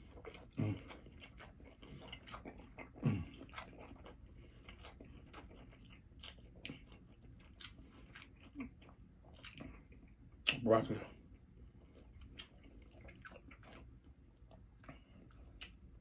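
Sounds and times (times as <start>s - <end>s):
mouth clicks and smacks chewing: 0.0s - 10.6s, 11.3s - 15.9s.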